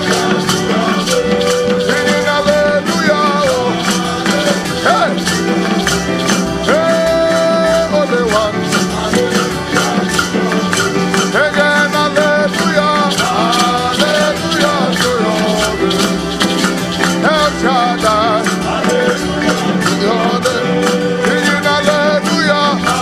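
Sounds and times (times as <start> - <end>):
shaker percussion ticking: 0.0 - 23.0
upbeat gospel band instrumental: 0.0 - 23.0.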